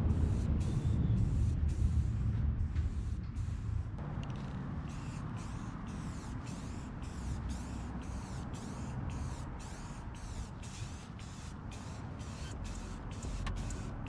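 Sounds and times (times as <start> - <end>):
spray paint hissing: 0.0 - 14.0.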